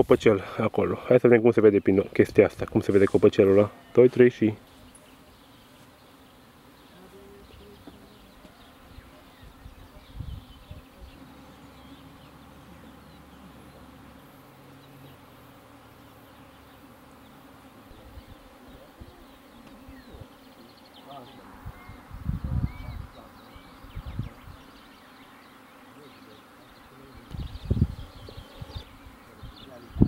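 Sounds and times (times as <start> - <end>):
flying insects buzzing: 0.0 - 30.0.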